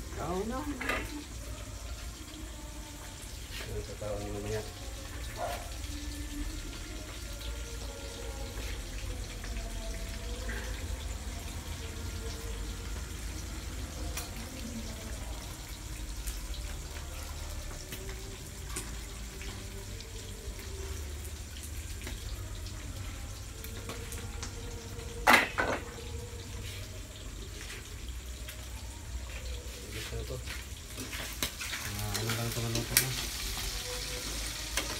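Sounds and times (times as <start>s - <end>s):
gas stove burner rumble and hiss: 0.0s - 34.9s.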